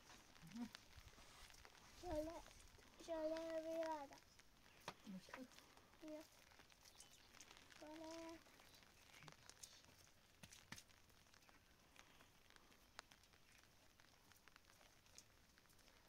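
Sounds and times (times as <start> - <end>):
faint clicks and light taps: 0.0 - 16.0.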